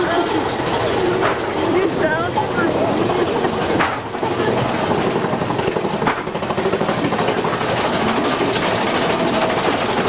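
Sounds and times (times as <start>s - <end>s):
roller coaster lift chain rattling: 0.0s - 10.0s.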